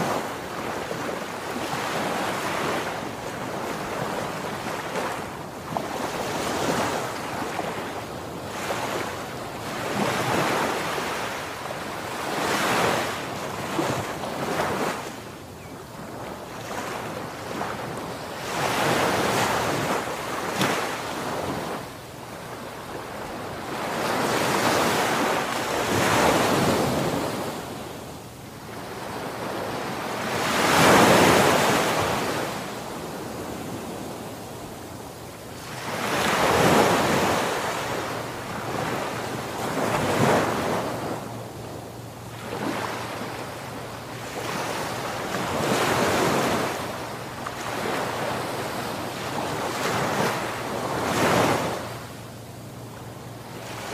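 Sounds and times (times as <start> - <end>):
waves breaking and washing ashore: 0.0 - 53.9.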